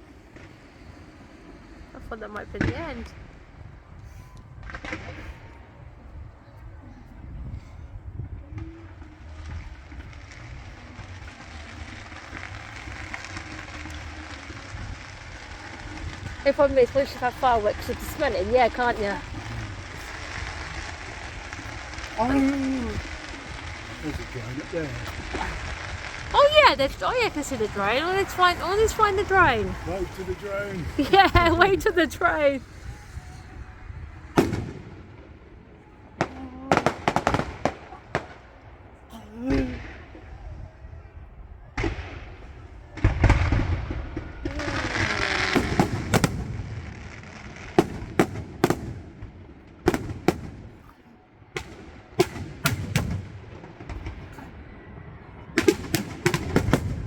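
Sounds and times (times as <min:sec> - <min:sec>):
low rumble: 0:00.0 - 0:50.9
distant fireworks crackling: 0:00.0 - 0:57.0.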